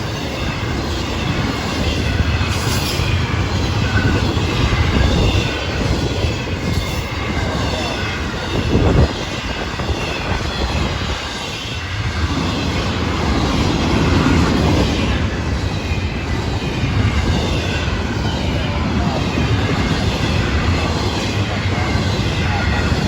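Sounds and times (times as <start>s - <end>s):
freight train rumbling on rails: 0.0s - 23.0s.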